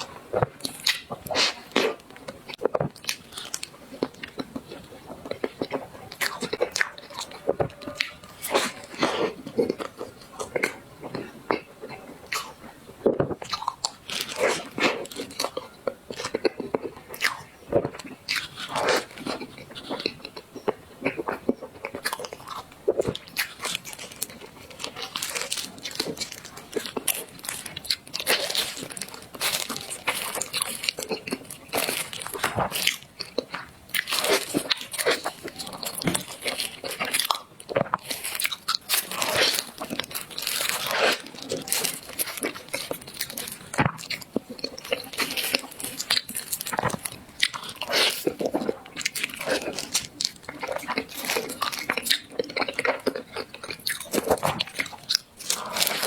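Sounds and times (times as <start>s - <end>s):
crisp bites and crunchy chewing: 0.0s - 56.0s.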